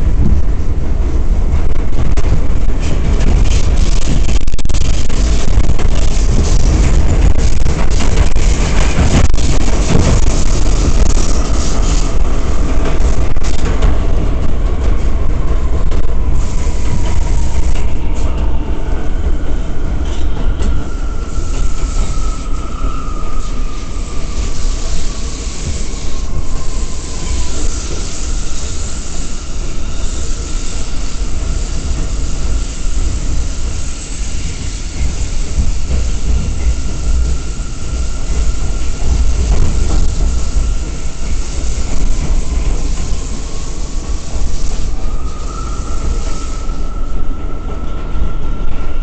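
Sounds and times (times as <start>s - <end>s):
subway train rumble: 0.0s - 49.0s.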